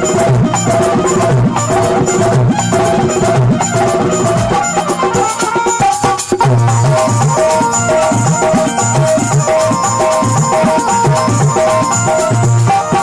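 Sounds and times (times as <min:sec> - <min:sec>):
hand drum beat: 0:00.0 - 0:13.0
held melody tones: 0:00.0 - 0:13.0.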